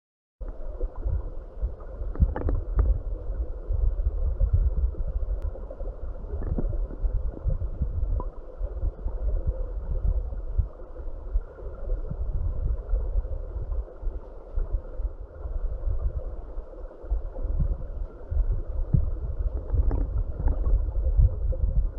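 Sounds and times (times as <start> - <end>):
underwater river rumble and gurgle: 0.4 - 21.9.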